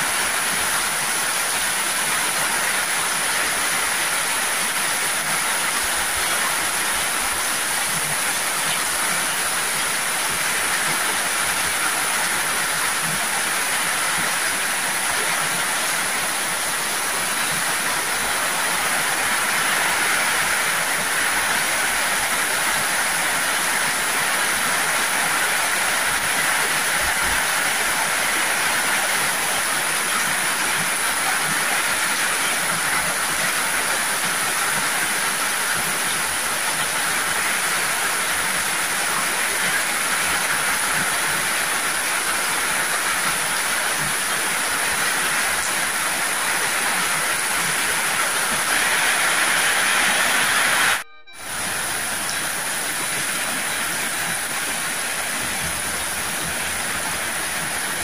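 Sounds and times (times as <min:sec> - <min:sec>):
heavy rain on a metal roof: 0:00.0 - 0:58.0.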